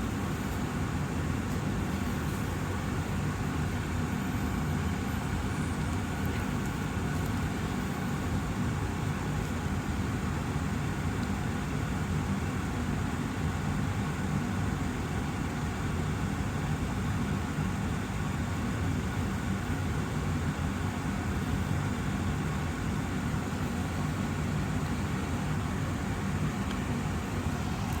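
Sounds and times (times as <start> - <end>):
air purifier fan running: 0.0 - 28.0.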